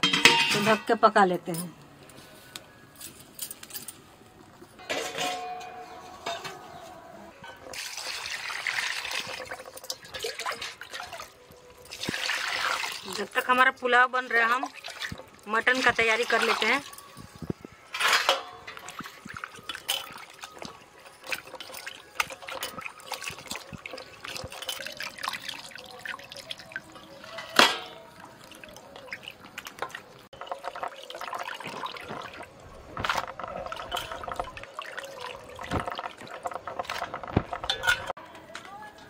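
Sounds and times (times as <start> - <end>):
water sloshing in steel bowl: 4.8 - 38.1.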